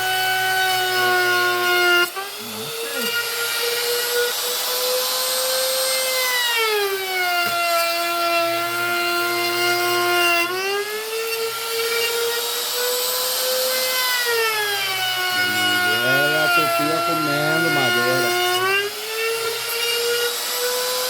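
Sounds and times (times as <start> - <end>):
router bit rasping wood: 0.0 - 21.0
wood router motor whine: 0.0 - 21.0.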